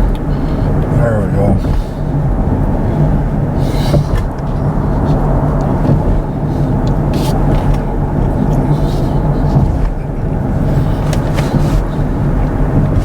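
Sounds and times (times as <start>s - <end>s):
hissy rustles: 0.0s - 13.0s
road and tyre noise in car: 0.0s - 13.0s.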